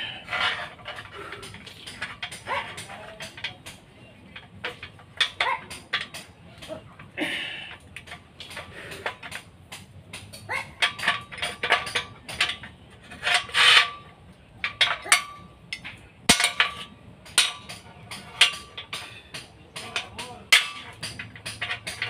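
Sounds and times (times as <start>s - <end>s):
sharp clicks and knocks: 0.3s - 22.0s.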